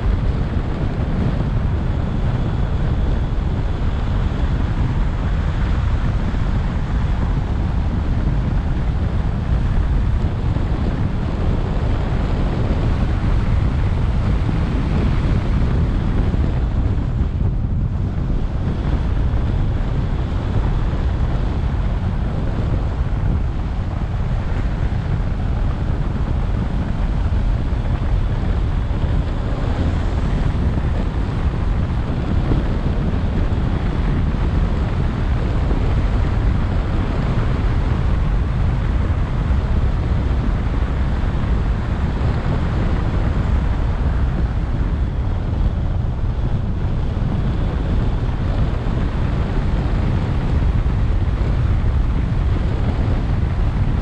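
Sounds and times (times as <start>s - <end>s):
road noise: 0.0s - 54.0s
wind rumble on microphone: 0.0s - 54.0s.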